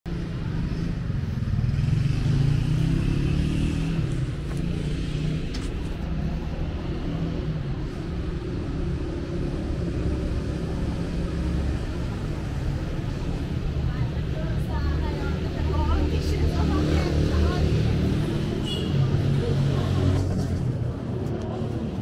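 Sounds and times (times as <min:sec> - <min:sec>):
city road traffic: 0:00.0 - 0:22.0
vehicle engine passing: 0:00.7 - 0:22.0.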